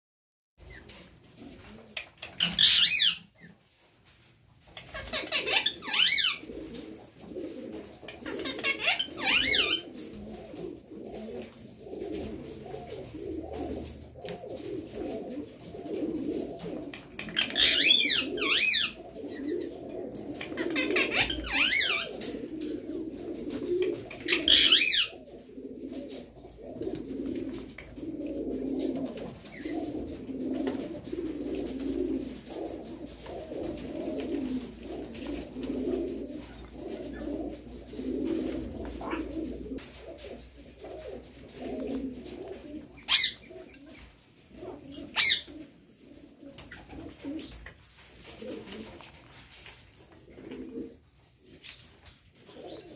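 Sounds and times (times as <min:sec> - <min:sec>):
warbling bird calls: 0:00.6 - 0:03.6, 0:04.7 - 0:52.9.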